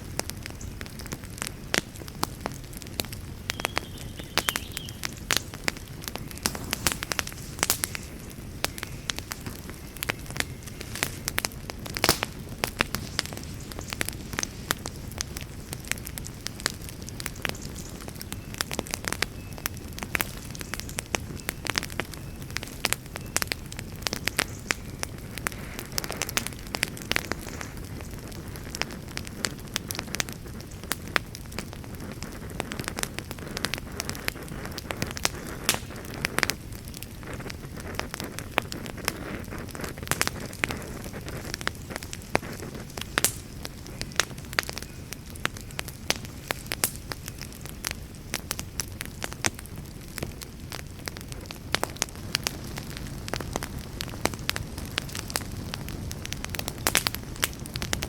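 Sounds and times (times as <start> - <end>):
low rumble of flames: 0.0 - 58.0
wood fire crackling and popping: 0.0 - 58.0.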